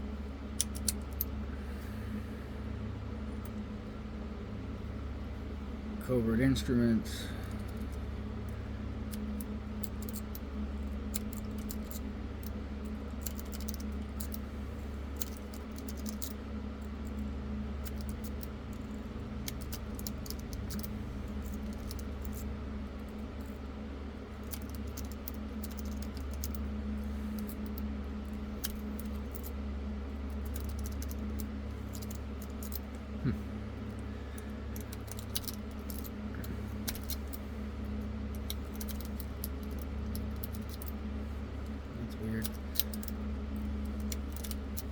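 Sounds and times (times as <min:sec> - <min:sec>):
low hum: 0:00.0 - 0:44.9.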